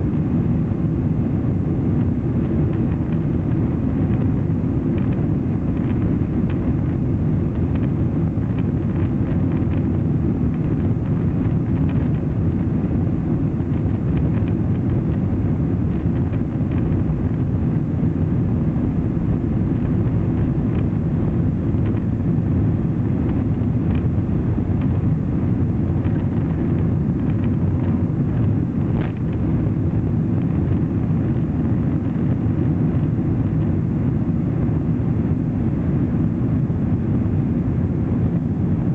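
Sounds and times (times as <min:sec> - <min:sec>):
jet engines deep rumble: 0:00.0 - 0:38.9.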